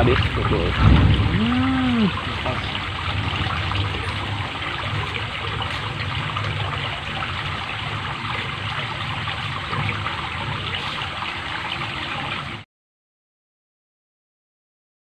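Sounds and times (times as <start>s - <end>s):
water trickling into pond: 0.0s - 12.6s.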